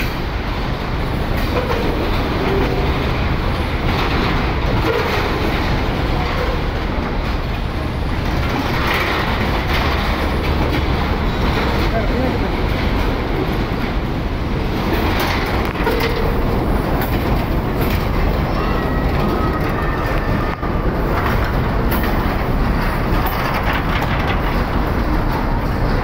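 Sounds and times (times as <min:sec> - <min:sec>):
train wheels rumbling on rails: 0:00.0 - 0:26.0
wheels clattering over rail joints: 0:00.0 - 0:26.0.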